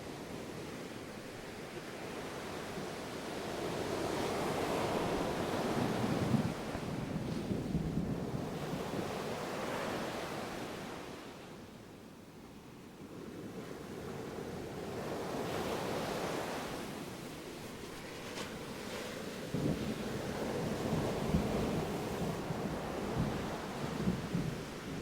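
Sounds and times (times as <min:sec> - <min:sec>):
ocean surf washing in: 0:01.1 - 0:11.3, 0:14.2 - 0:25.0.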